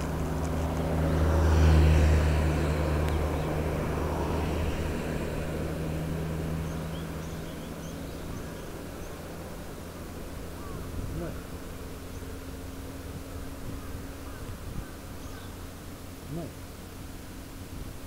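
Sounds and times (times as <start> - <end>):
motor vehicle passing: 0.0 - 18.0.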